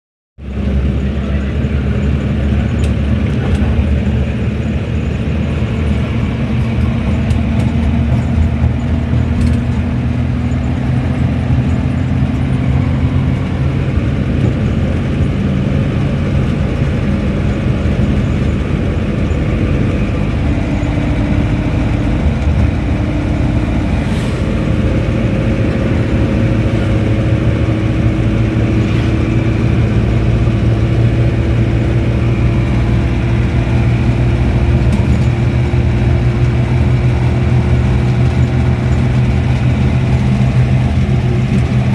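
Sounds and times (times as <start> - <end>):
car engine running: 0.4 - 41.9
road rumble: 0.4 - 41.9.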